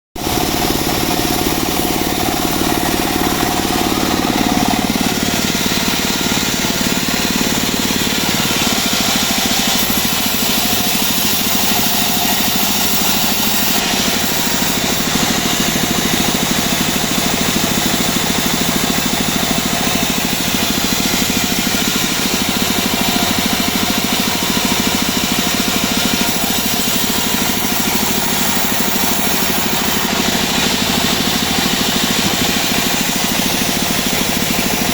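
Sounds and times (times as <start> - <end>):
bandsaw sawmill engine running: 0.2 - 34.9.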